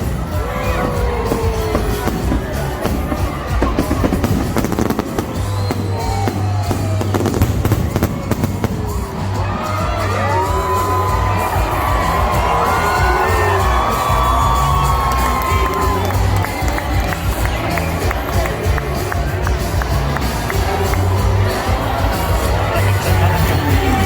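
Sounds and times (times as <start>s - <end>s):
fireworks bangs and crackles: 0.0s - 24.0s
loud background music: 0.0s - 24.0s.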